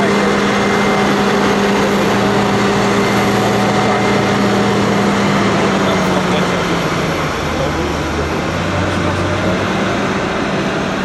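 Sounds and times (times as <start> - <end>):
airliner and tug hum and whine: 0.0 - 11.0.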